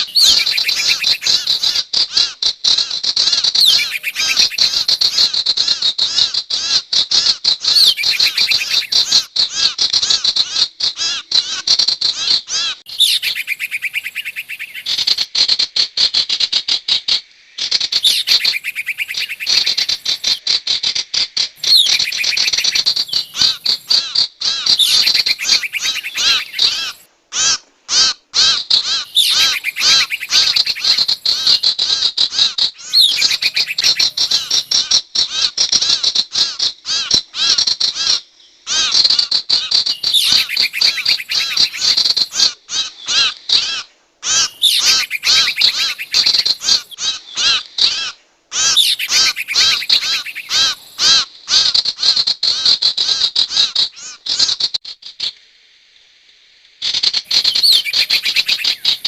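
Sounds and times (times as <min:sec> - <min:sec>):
bird chirping calls: 0:00.0 - 0:06.8, 0:07.5 - 0:15.3, 0:17.6 - 0:27.6, 0:28.4 - 0:54.7, 0:57.0 - 0:59.0.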